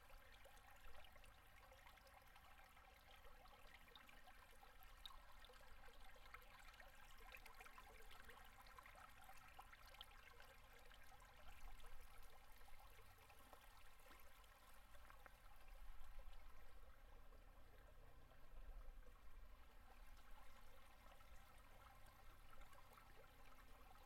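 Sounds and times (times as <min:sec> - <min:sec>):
river water trickling under ice: 0:00.0 - 0:24.0.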